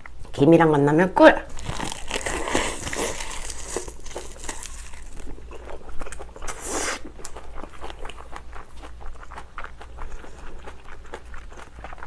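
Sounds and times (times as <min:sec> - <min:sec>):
close-up chewing: 0:01.5 - 0:12.0.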